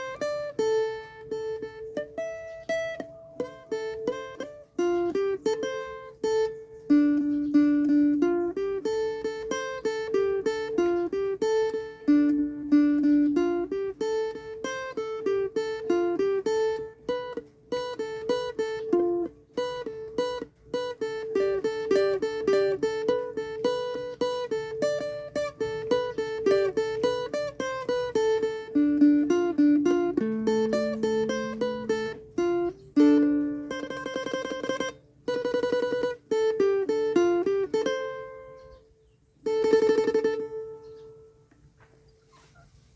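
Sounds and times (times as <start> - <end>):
plucked guitar-like melody: 0.0 - 42.6.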